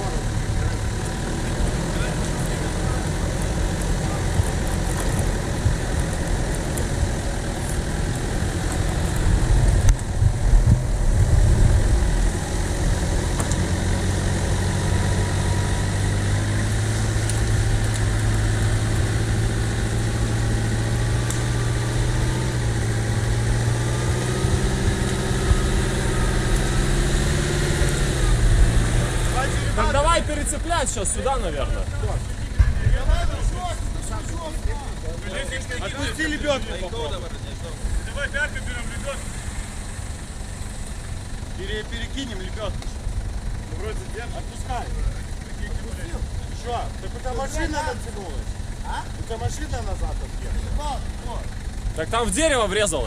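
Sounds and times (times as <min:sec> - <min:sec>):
suv engine running: 0:00.0 - 0:53.0.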